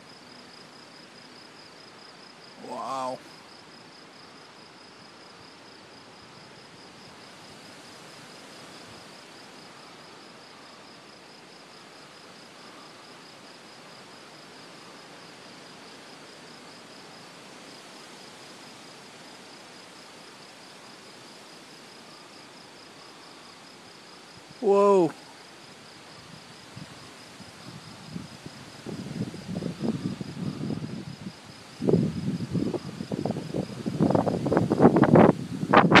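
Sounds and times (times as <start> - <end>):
crickets chirping: 0.0 - 36.0
soft hiss of insects: 0.0 - 36.0.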